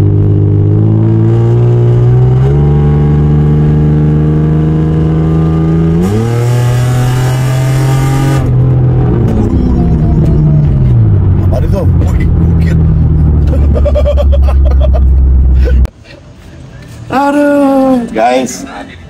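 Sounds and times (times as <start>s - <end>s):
car engine accelerating hard: 0.0s - 15.9s.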